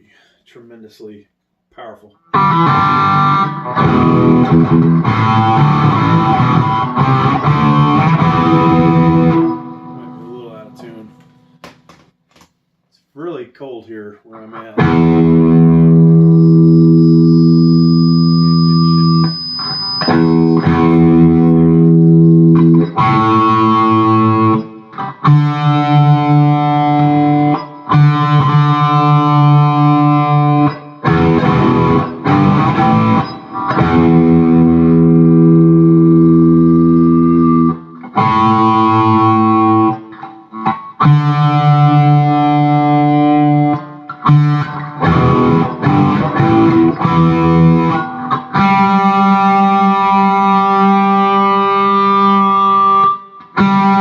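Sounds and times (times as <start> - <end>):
distorted electric guitar chords: 2.2 - 11.6, 14.4 - 54.0.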